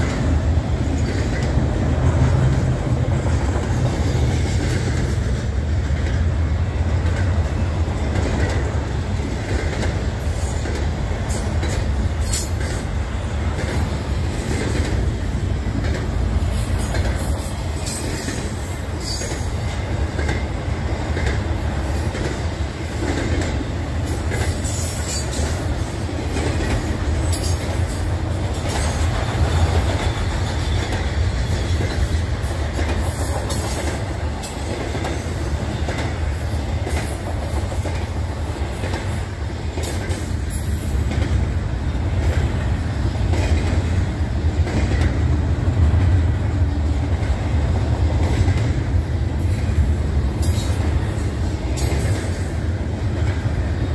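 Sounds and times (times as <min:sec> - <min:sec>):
freight train wheels rumbling: 0:00.0 - 0:53.9
rail clacks: 0:00.0 - 0:53.9.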